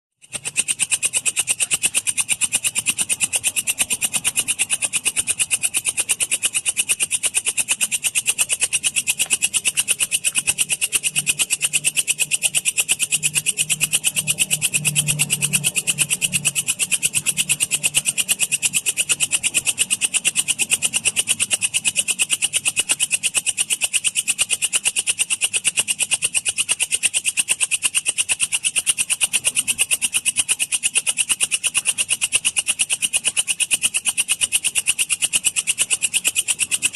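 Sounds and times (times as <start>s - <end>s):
bush cricket chirping: 0.2s - 36.9s.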